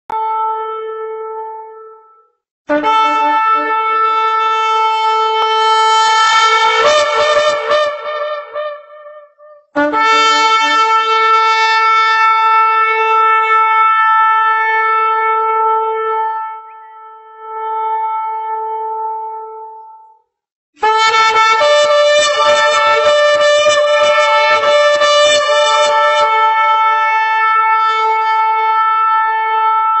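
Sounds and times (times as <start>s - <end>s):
shofar blast: 2.7s - 19.0s, 20.8s - 30.0s.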